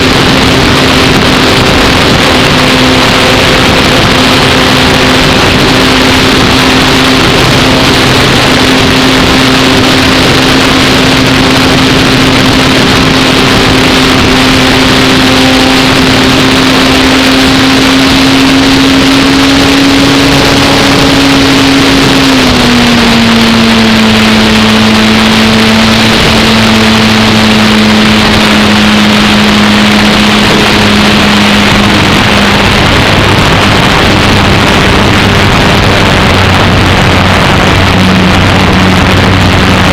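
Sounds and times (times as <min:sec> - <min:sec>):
electric motor and propeller hum: 0:00.0 - 0:39.9
wind rush: 0:00.0 - 0:39.9.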